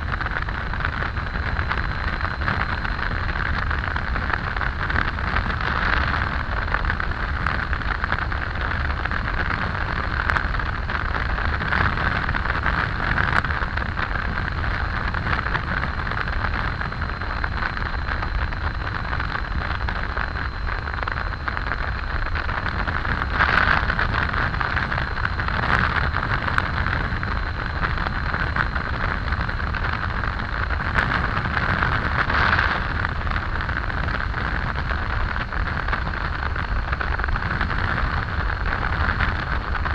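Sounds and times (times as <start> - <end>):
motorcycle engine drone: 0.0 - 39.9
wind rushing over microphone: 0.0 - 39.9.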